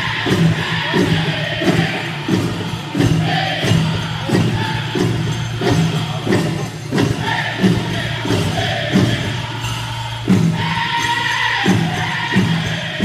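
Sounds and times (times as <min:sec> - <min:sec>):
large drum beating: 0:00.0 - 0:13.0
men singing high chant: 0:00.0 - 0:13.0.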